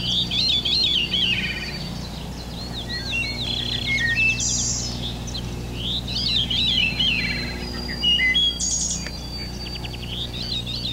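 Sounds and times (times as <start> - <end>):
birds singing and calling: 0.0 - 10.9
steady low hum: 0.0 - 10.9.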